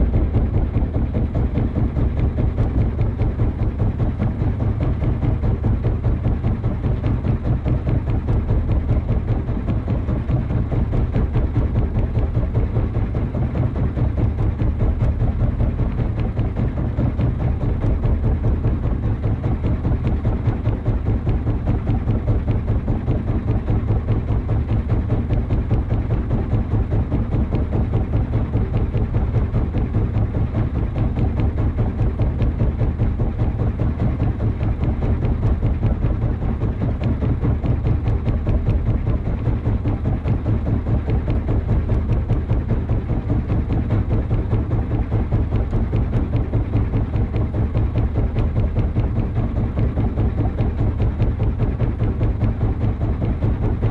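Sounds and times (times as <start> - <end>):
boat engine idling: 0.0 - 53.9.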